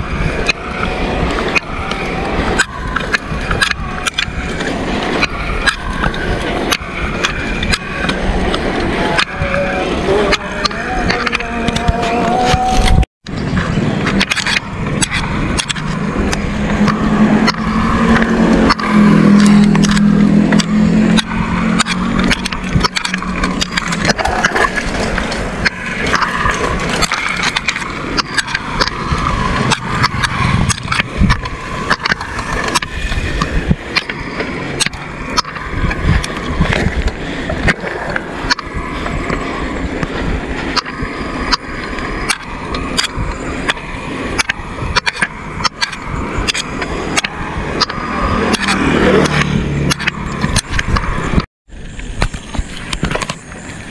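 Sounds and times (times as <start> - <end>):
bicycle tyre roar: 0.0 - 53.9
bike clicking and rattling: 0.0 - 53.9
motorbike engine hum: 0.0 - 53.9
wind rushing over camera: 0.0 - 53.9.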